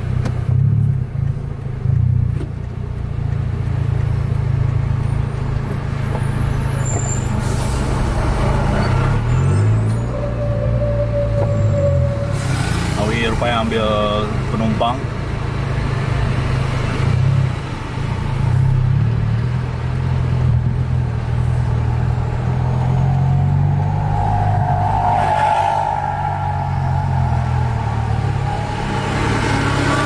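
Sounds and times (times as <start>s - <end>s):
low vehicle engine hum: 0.0s - 30.0s.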